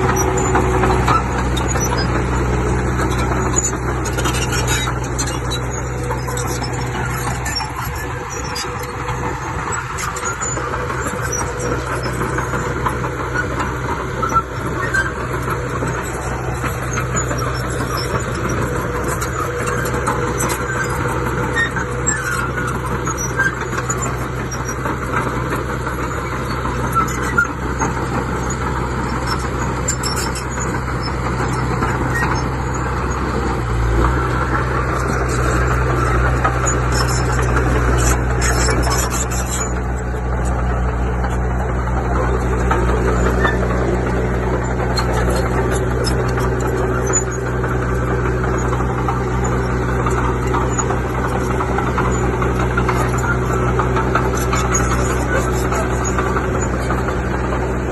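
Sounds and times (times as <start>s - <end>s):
clanks and ticks: 0.0s - 57.9s
heavy machinery diesel engine: 0.0s - 57.9s.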